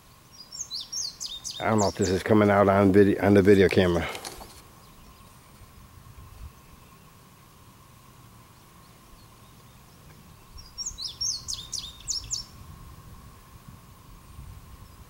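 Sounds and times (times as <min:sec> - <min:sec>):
songbird chirping: 0:00.0 - 0:12.6
faint high-pitched hum: 0:00.0 - 0:15.0.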